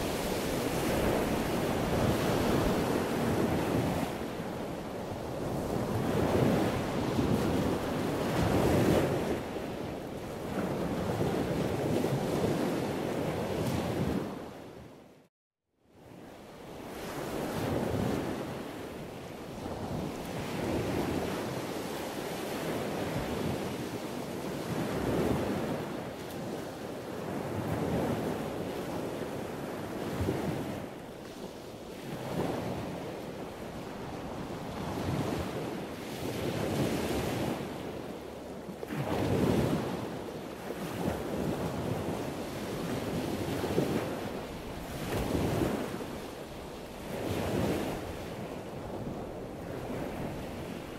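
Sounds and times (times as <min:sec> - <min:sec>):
wind rushing over microphone: 0:00.0 - 0:15.1, 0:16.7 - 0:50.9.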